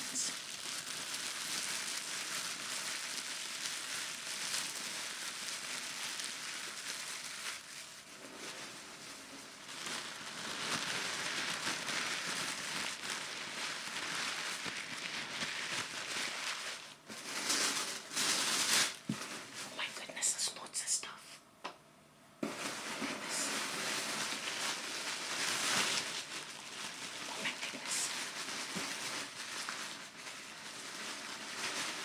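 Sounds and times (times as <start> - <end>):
wrapping paper crinkling: 0.0 - 21.2, 22.4 - 32.0.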